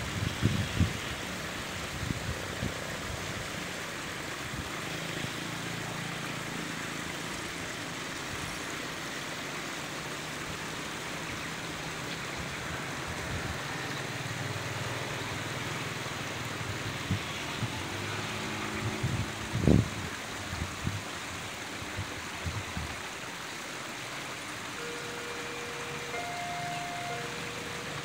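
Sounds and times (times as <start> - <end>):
outdoor hiss: 0.0 - 28.0
vehicle engines humming: 1.0 - 22.1, 23.0 - 28.0.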